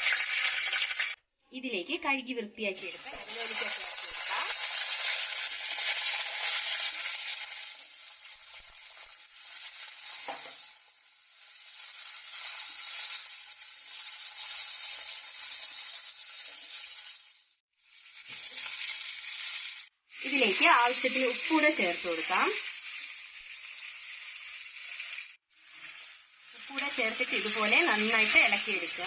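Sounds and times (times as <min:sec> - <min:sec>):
fruit sizzling in hot oil: 0:00.0 - 0:01.2, 0:02.2 - 0:29.0.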